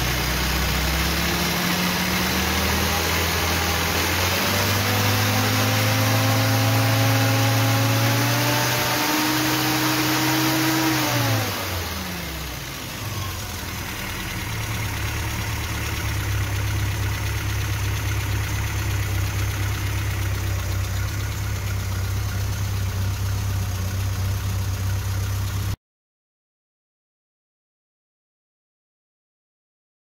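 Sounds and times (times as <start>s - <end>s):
car engine revving then idling: 0.0s - 25.8s.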